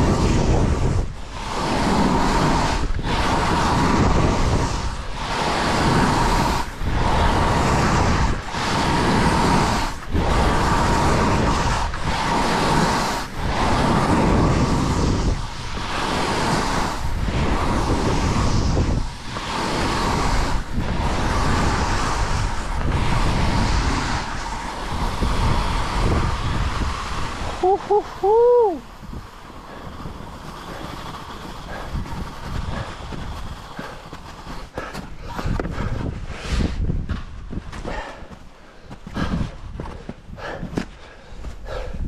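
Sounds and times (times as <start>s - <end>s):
skis hissing over snow: 0.0s - 42.0s
wind on microphone: 0.0s - 42.0s.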